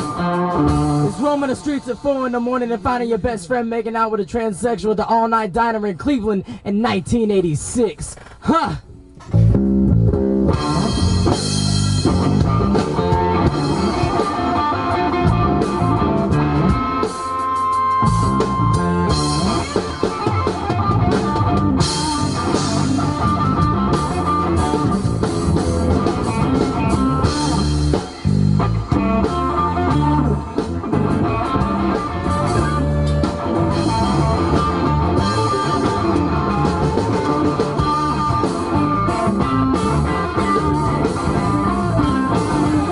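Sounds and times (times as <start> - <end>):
electric guitars: 0.0 - 3.4, 8.0 - 42.9
drum kit: 0.0 - 4.0, 7.3 - 42.9.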